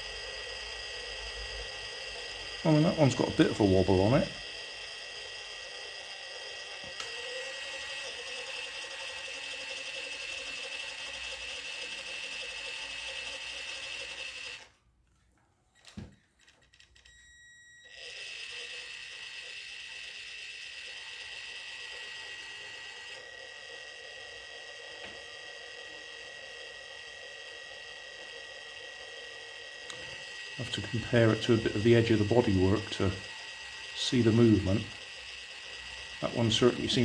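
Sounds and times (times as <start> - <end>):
toy car electric motor whining: 0.0 - 14.8, 15.7 - 37.0.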